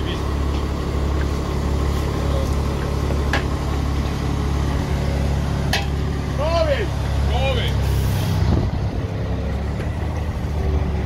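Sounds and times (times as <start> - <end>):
crane engine idling: 0.0 - 11.0.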